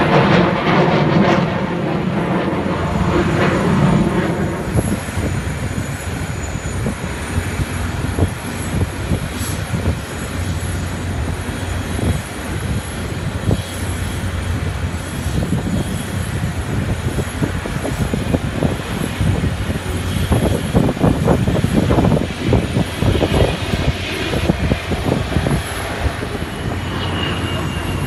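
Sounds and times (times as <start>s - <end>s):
jet engines rumbling in flight: 0.0s - 28.0s.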